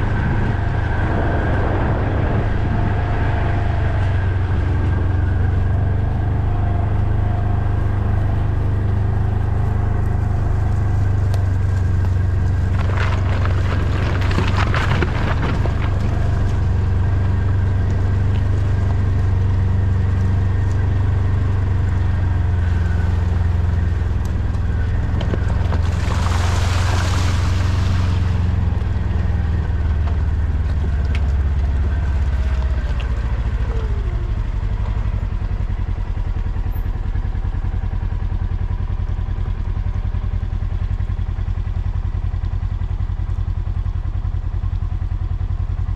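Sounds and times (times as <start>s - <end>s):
vehicle engine running at low revs: 0.0s - 45.9s.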